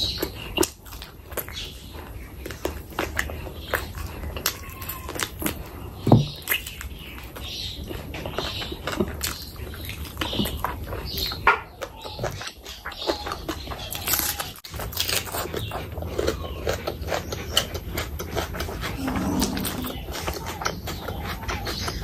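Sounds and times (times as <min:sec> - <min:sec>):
chewing and lip smacks: 0:00.0 - 0:22.0.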